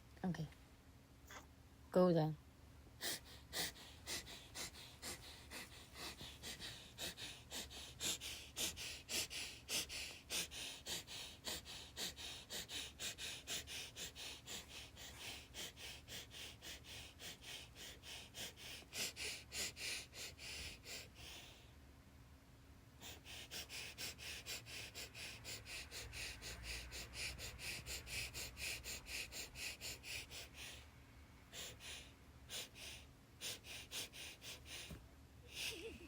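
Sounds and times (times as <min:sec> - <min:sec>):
person breathing hard rhythmically: 0:02.9 - 0:21.8, 0:23.0 - 0:36.0.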